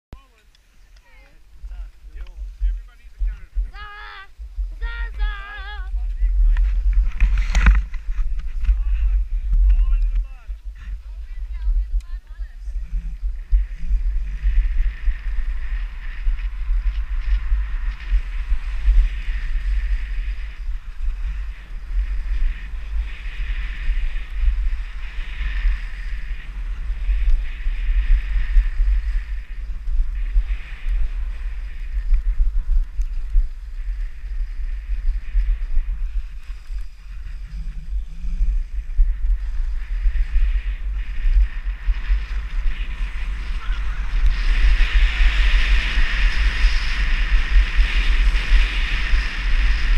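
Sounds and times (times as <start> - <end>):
wind buffeting microphone: 0.1 - 49.9
skis scraping on snow: 0.2 - 49.9.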